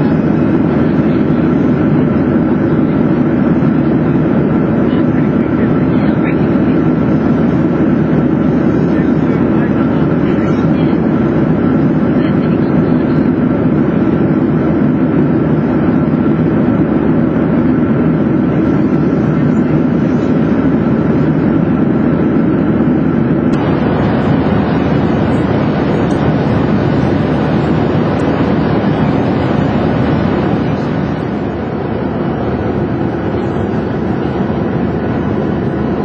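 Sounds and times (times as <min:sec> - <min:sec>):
airplane cabin roar: 0:00.0 - 0:36.0.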